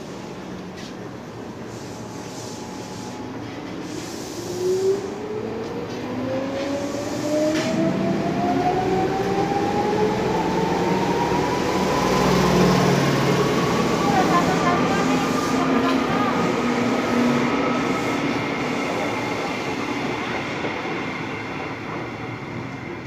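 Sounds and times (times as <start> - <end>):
rumble of moving train cars: 0.0 - 23.0.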